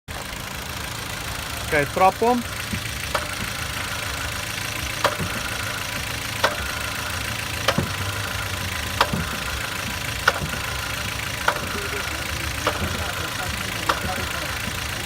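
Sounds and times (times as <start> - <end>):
car engine idling: 0.1 - 15.0
clutch and gearbox knock: 0.8 - 15.0.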